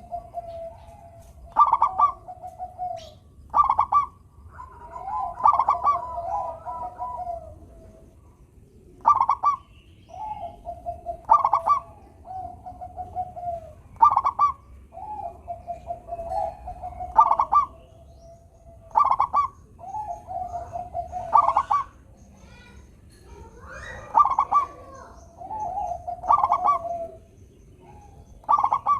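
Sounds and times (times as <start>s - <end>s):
dove cooing song: 0.0s - 28.9s.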